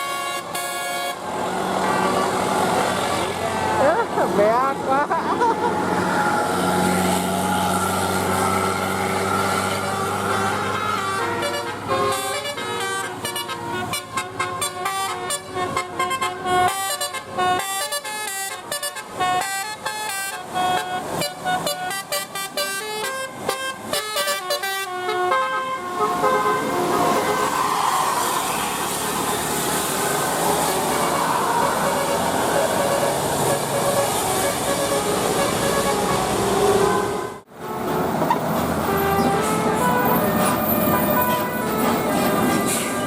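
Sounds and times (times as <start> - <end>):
bus engine noise: 0.0 - 43.0
melodic bus horn: 0.0 - 43.0.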